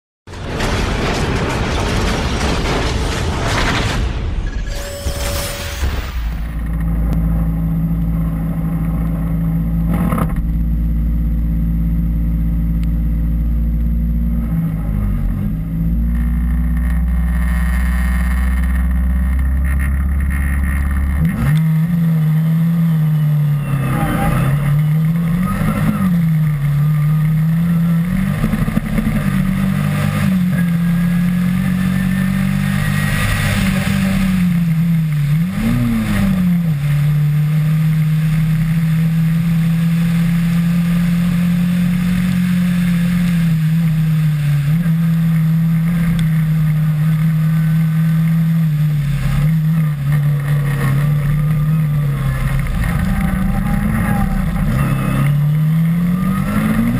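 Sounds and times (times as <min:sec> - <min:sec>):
rally car engine accelerating: 0:06.4 - 0:56.9.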